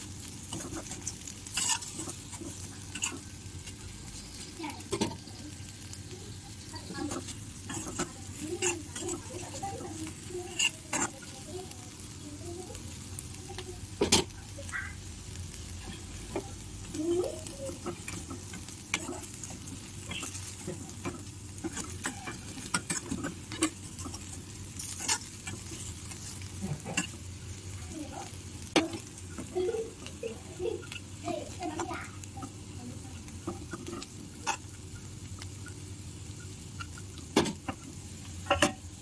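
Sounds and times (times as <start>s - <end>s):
spatula scraping a pan: 0.0s - 12.9s, 15.6s - 38.9s
potatoes sizzling in a pan: 0.0s - 39.0s.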